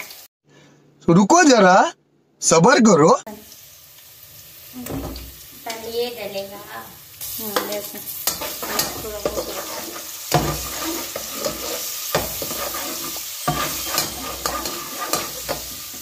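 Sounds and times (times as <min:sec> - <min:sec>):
onions sizzling in hot oil: 0:00.0 - 0:00.3, 0:03.3 - 0:16.0.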